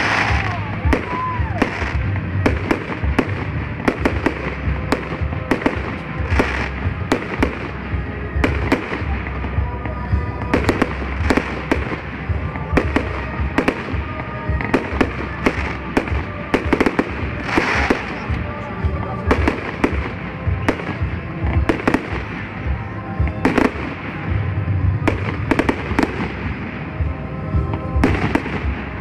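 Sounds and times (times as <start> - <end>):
fireworks bangs and pops: 0.0 - 29.0.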